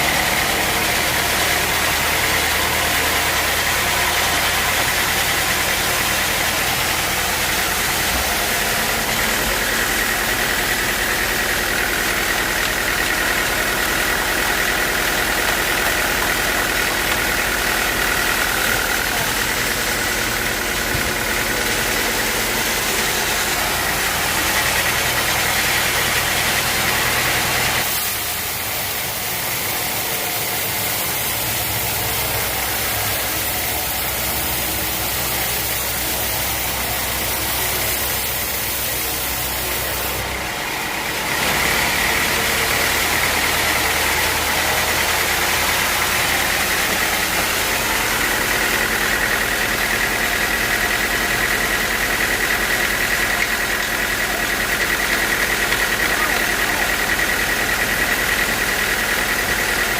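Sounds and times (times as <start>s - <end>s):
bandsaw sawmill running: 0.0s - 59.9s.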